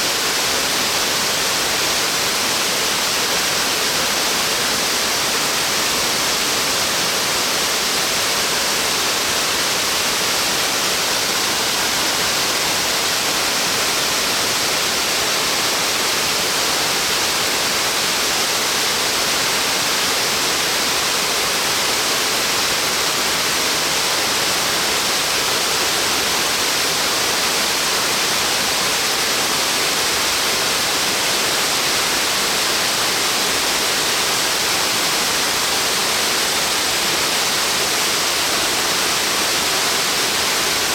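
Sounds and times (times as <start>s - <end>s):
waterfall rushing onto rock: 0.0s - 40.9s.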